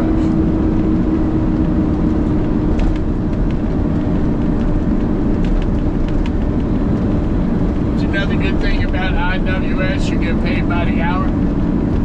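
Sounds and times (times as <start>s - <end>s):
diesel truck engine rumble: 0.0s - 12.0s
road noise: 0.0s - 12.0s
light ticks and rattles: 1.5s - 12.0s.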